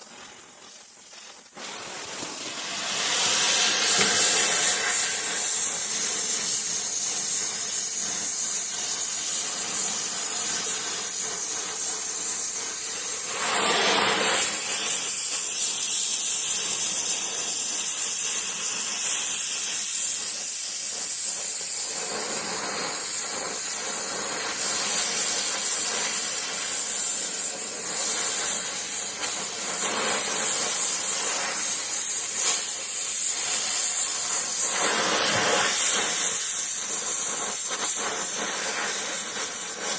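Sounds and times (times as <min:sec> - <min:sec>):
welding torch flame hissing: 0:00.0 - 0:39.9.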